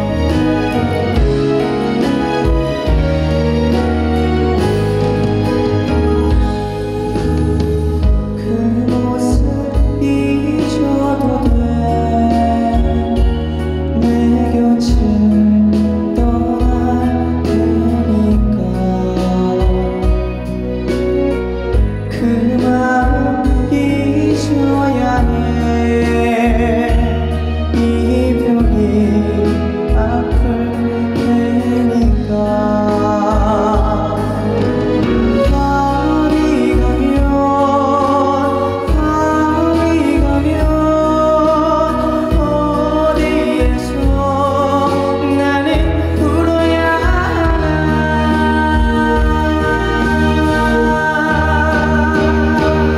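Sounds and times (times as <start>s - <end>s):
backing band with bass and guitar: 0.0s - 52.9s
person singing with vibrato: 0.0s - 52.9s.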